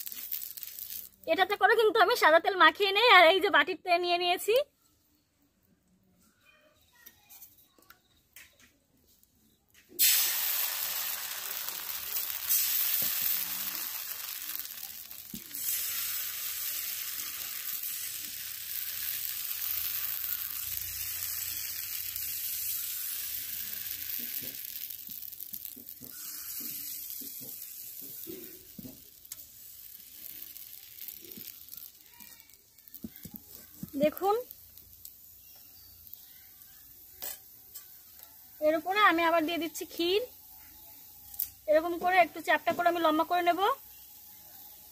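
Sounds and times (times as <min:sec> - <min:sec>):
batter sizzling in hot pan: 0:00.0 - 0:02.5, 0:09.8 - 0:44.9.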